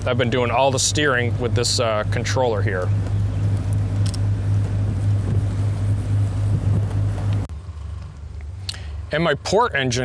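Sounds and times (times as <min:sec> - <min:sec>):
boat diesel engines droning: 0:00.0 - 0:10.0.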